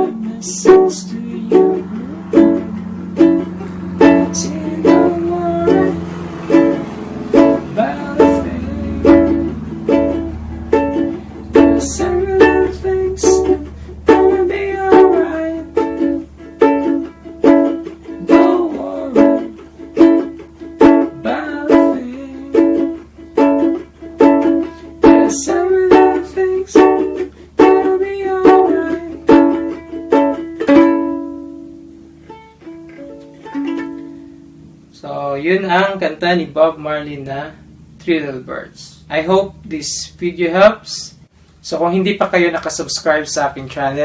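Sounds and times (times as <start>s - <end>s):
ukulele strumming: 0.0s - 38.0s.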